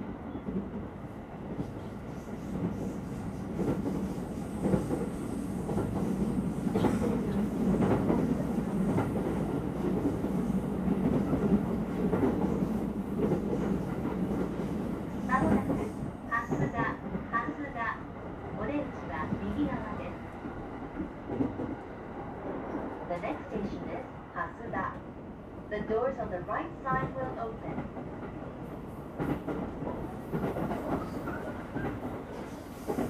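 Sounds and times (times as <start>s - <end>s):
oncoming train passing: 0.0s - 33.0s.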